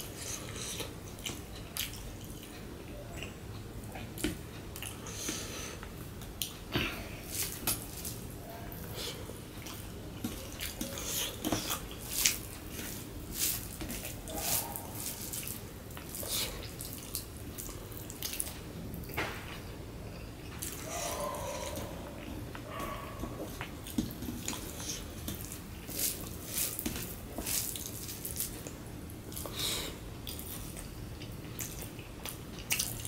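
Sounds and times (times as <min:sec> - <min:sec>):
chewing: 0:00.0 - 0:05.5, 0:07.2 - 0:29.6, 0:30.2 - 0:33.0.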